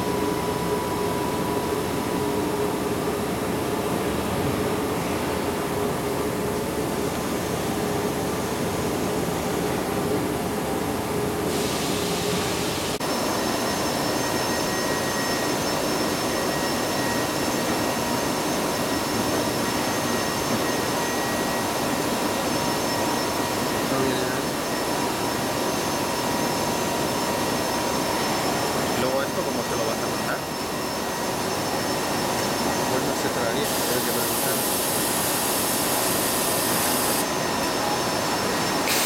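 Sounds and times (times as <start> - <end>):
factory machine hum: 0.0 - 39.0
industrial printer whirring: 0.1 - 39.0.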